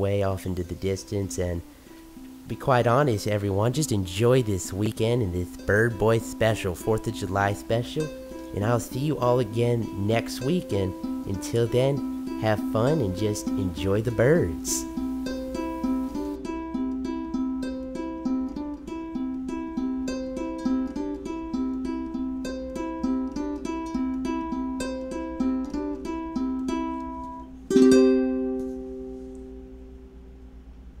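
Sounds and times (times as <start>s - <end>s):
plucked acoustic string melody: 0.0s - 30.1s.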